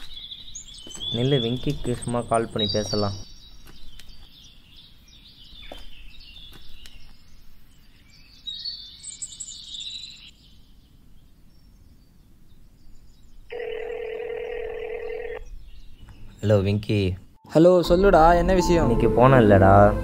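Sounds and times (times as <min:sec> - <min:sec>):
birds chirping and trilling: 0:00.0 - 0:20.0
low outdoor background: 0:00.0 - 0:20.0.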